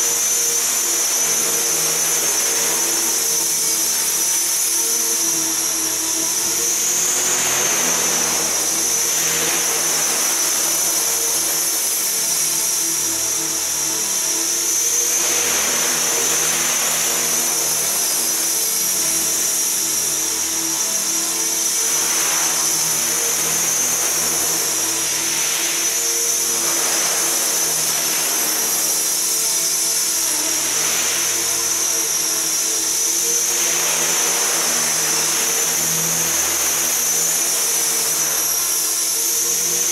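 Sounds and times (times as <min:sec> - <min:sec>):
motor and gear whine: 0:00.0 - 0:39.9.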